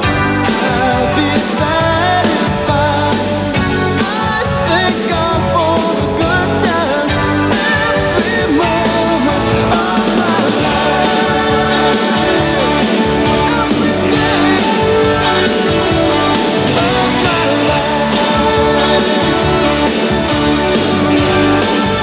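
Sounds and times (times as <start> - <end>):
electric guitar: 0.0 - 22.0
lead vocal: 0.0 - 22.0
steady drum beat: 0.0 - 22.0.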